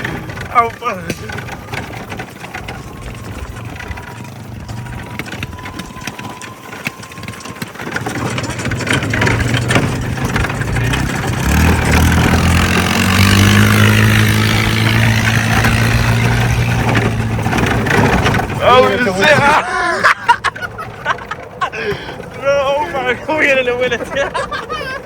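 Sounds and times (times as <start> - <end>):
rattly vehicle engine drone: 0.0 - 25.0.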